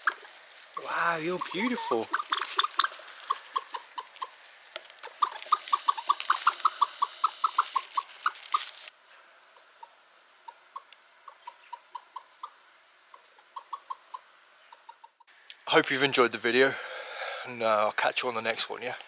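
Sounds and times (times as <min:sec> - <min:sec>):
chickens clucking: 0:00.0 - 0:16.3
background hiss: 0:00.0 - 0:19.0.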